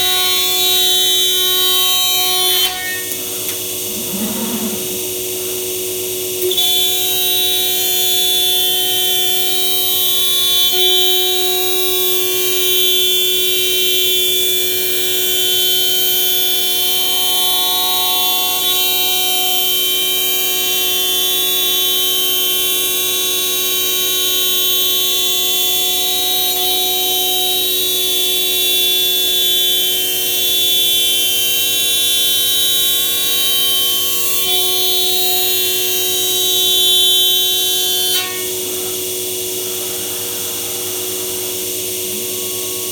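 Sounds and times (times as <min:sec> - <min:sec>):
cnc machine whining: 0:00.0 - 0:30.5, 0:31.1 - 0:42.9.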